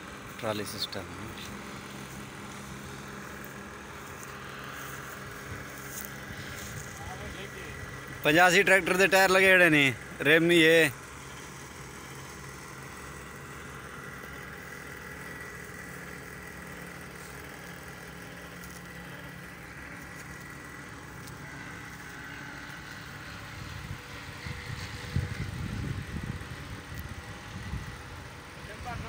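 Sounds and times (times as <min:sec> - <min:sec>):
machine hum with high whine: 0:00.0 - 0:29.0.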